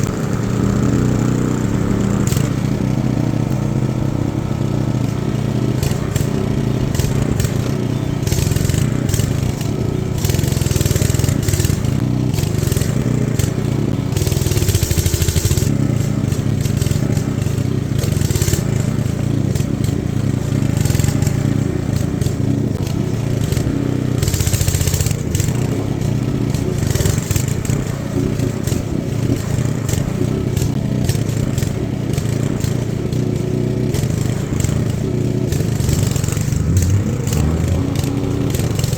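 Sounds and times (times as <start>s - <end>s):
blade scraping dirt: 0.0s - 38.9s
lawnmower engine running: 0.0s - 38.9s.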